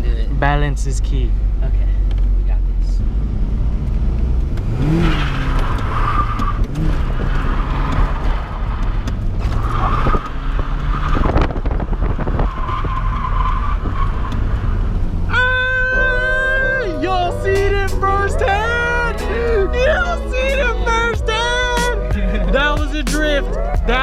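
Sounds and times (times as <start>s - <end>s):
car engine revving: 0.0s - 24.0s
tires squealing: 4.0s - 24.0s.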